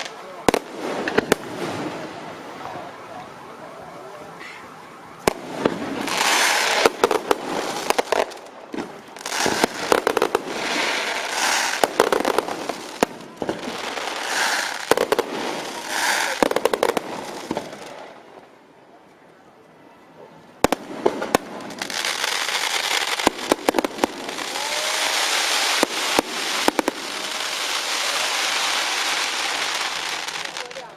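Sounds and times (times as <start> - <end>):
firework bangs: 0.0 - 2.9, 4.4 - 18.4, 20.6 - 30.9
fireworks hissing and crackling: 0.0 - 3.0, 4.2 - 18.5, 20.6 - 30.9.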